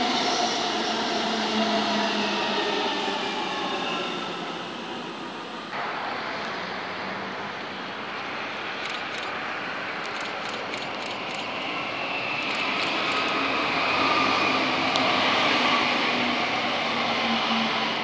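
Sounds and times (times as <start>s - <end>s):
train passing rushing rail noise: 0.0s - 18.0s.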